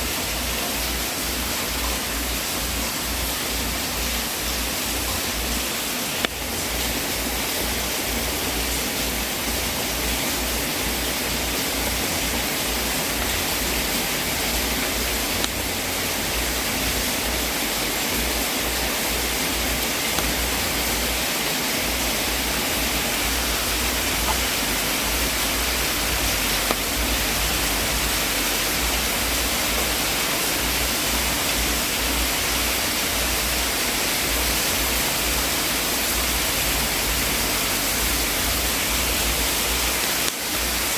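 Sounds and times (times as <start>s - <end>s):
wood fire hissing: 0.0s - 40.9s.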